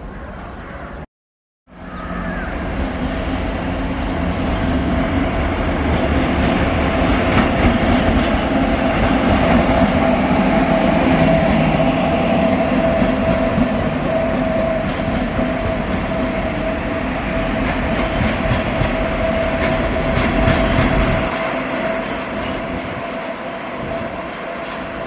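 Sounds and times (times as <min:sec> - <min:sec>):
train wheels rumbling on rails: 0:02.0 - 0:25.0.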